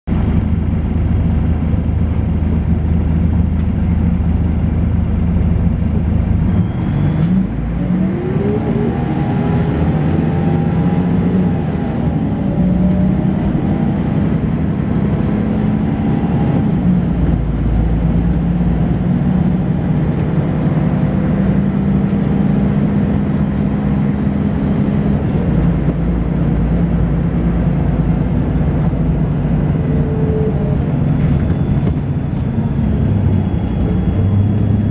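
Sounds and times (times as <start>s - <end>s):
bus engine: 0.1s - 34.9s
high-pitched whine: 0.3s - 34.9s.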